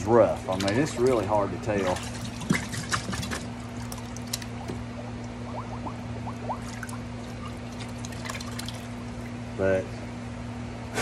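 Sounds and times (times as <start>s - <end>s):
water pouring and splashing: 0.2s - 9.4s.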